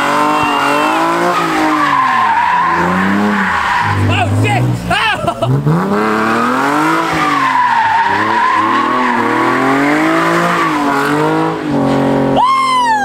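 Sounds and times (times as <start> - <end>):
car engine revving: 0.0 - 12.4
tires squealing: 0.0 - 13.0.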